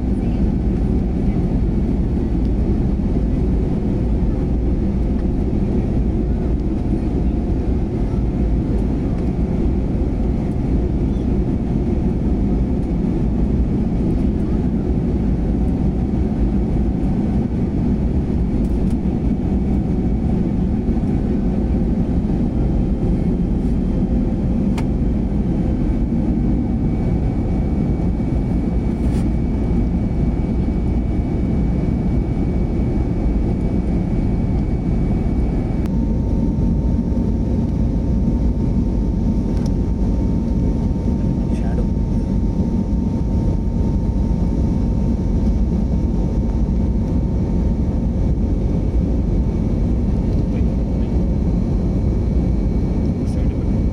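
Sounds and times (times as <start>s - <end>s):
jet engine and airflow rumble: 0.0s - 53.9s.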